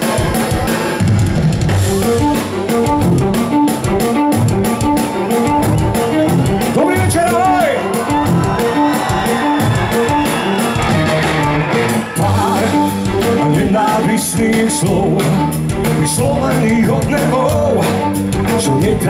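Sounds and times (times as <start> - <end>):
live rock band: 0.0 - 19.0.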